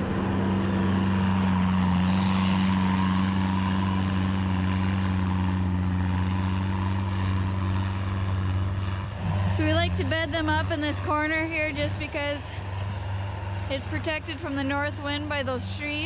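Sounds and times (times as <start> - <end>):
diesel engine running: 0.0 - 16.0
rushing mechanical noise: 0.0 - 16.0.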